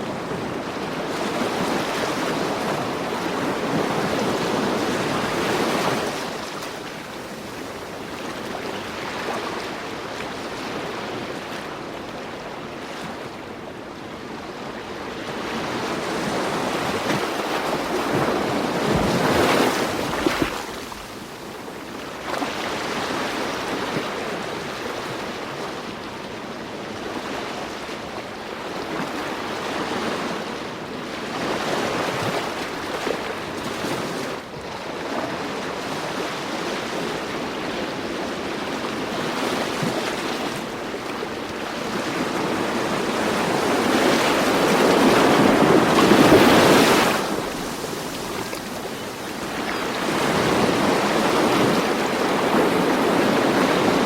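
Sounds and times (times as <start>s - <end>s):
ocean waves breaking: 0.0s - 13.3s, 14.9s - 26.1s, 27.0s - 54.0s.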